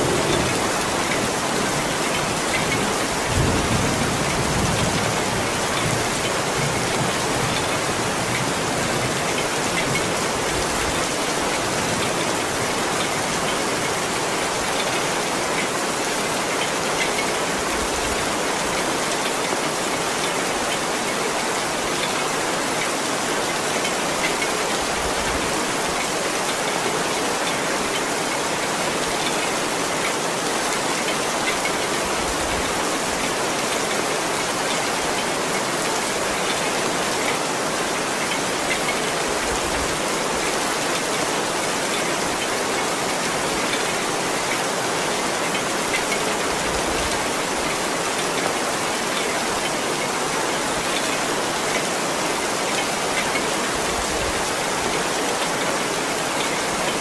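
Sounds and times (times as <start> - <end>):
heavy rain on paving and leaves: 0.0 - 57.0.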